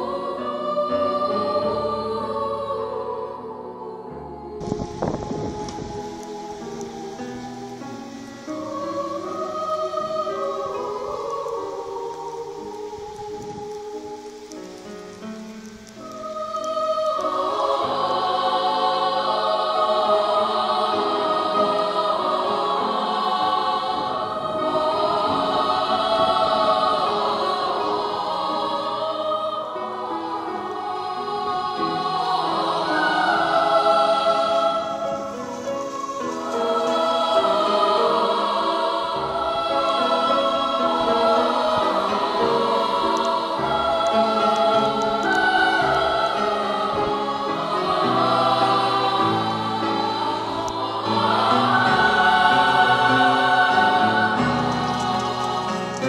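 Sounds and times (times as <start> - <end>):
choir singing slow song: 0.0 - 56.0.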